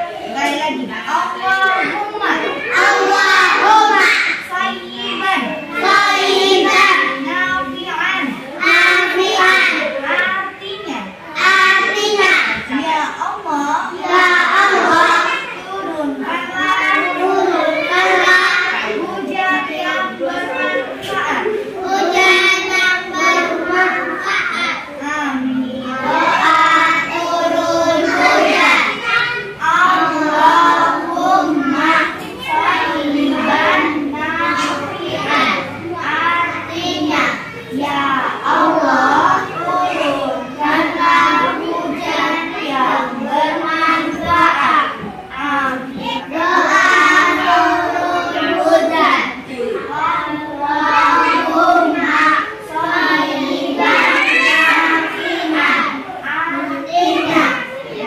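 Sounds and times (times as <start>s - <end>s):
child singing a chant: 0.0s - 58.0s.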